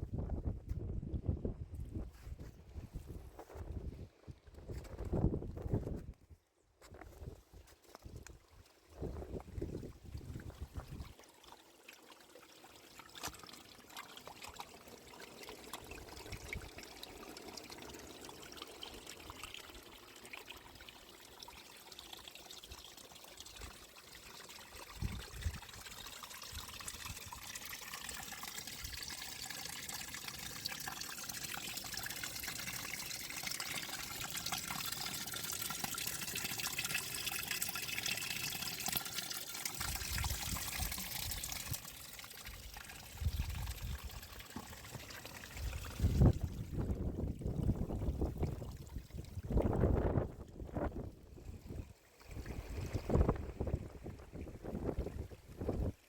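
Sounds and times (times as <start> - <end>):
water trickling and pouring: 6.9 - 56.0.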